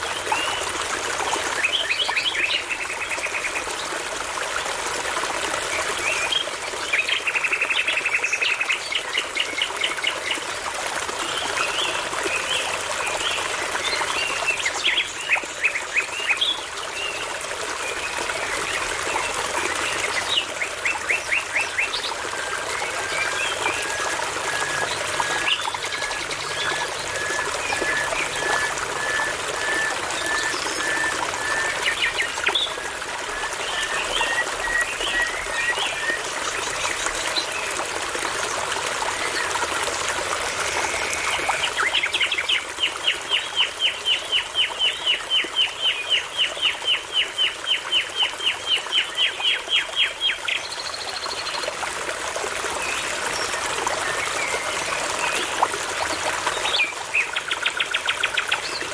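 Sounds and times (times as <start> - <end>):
brook trickling: 0.0 - 58.9.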